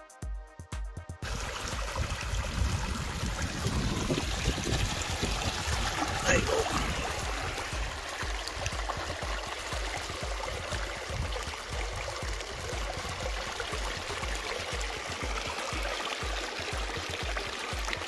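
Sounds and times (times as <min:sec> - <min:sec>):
water trickling and splashing: 0:01.2 - 0:18.0.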